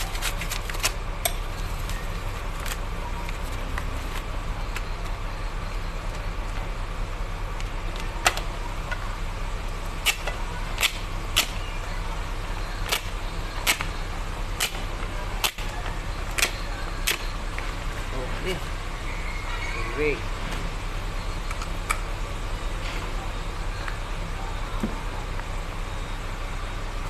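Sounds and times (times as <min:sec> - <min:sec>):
low motor-like hum: 0:00.0 - 0:27.0.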